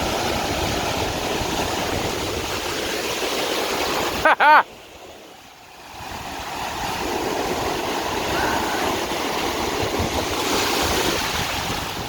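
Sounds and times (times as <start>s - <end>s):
ocean surf washing in: 0.0s - 12.0s.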